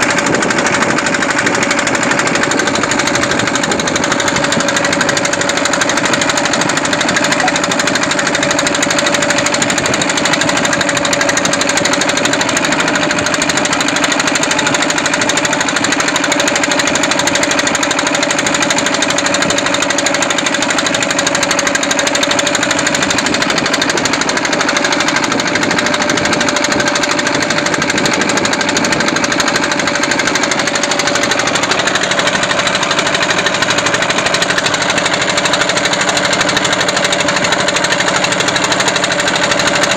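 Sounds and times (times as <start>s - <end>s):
boat engine knocking: 0.0s - 39.9s.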